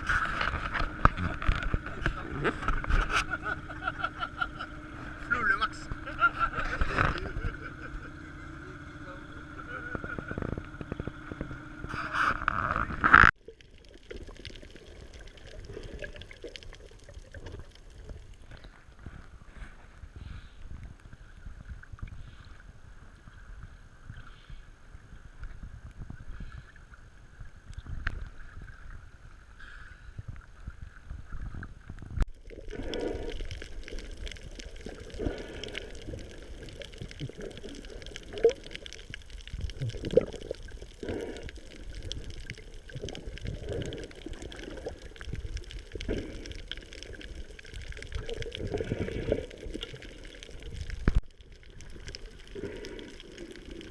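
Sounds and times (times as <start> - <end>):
faint steady hum: 0.0 - 53.9
water sloshing and gurgling: 0.0 - 53.9.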